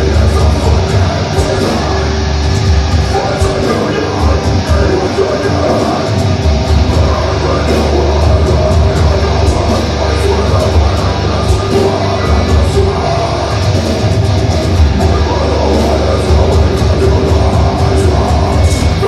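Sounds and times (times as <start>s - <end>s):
bass guitar: 0.0s - 19.0s
distorted electric guitars: 0.0s - 19.0s
pounding drum kit: 0.0s - 19.0s
singer's vocals: 0.0s - 19.0s.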